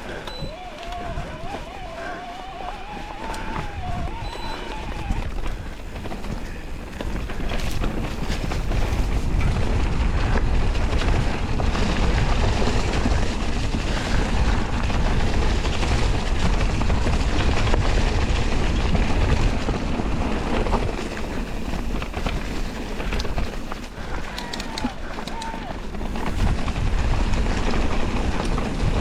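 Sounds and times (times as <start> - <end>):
bike clicking and rattling: 0.0 - 29.0
bike tyres rumbling on dirt: 0.0 - 29.0
wind buffeting microphone: 0.0 - 29.0.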